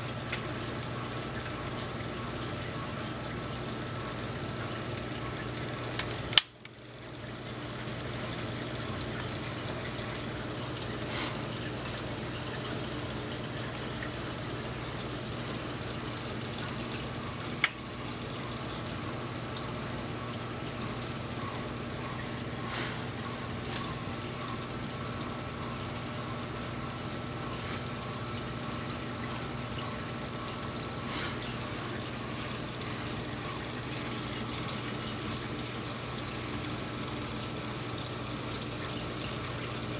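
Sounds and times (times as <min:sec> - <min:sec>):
low pump hum: 0:00.0 - 0:39.9
water trickling and pouring: 0:00.0 - 0:39.9.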